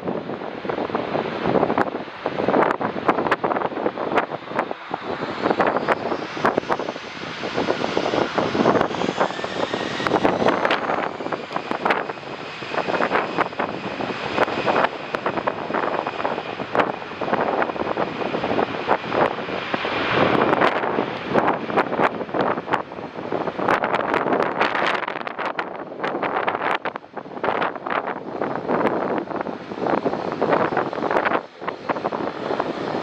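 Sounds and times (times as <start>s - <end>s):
airliner engines whining: 0.0s - 33.0s
wind buffeting microphone: 0.0s - 33.0s.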